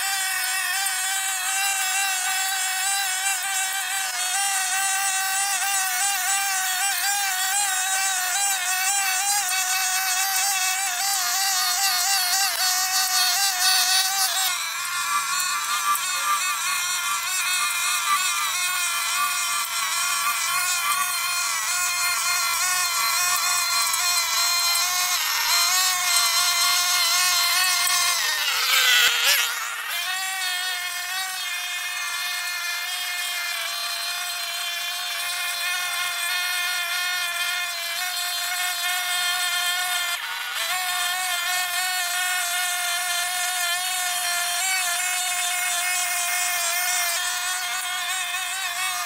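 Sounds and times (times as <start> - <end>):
brush cutter engine whine: 0.0 - 49.0.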